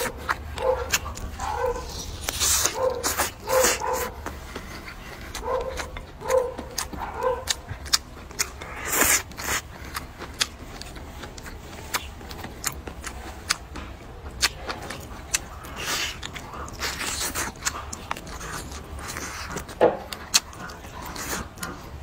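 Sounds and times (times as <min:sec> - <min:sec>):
person chewing with mouth open: 0:00.0 - 0:22.0.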